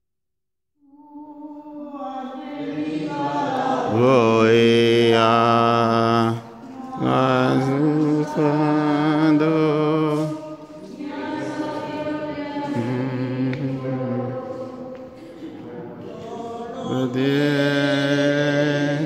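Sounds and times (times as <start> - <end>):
choir singing a slow hymn: 0.9 - 19.0.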